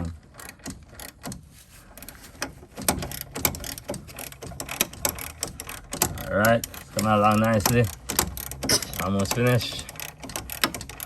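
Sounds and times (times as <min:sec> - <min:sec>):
hand ratchet clicking: 0:00.1 - 0:11.0.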